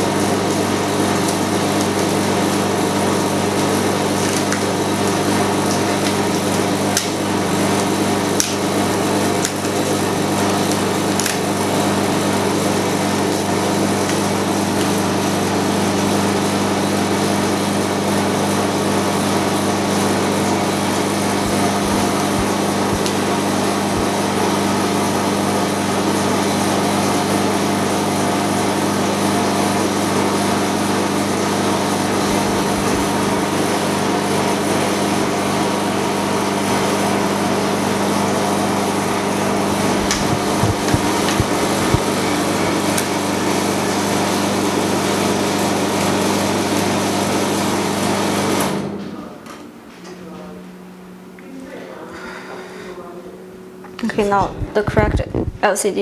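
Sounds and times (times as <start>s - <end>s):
freezer machine droning: 0.0s - 56.0s.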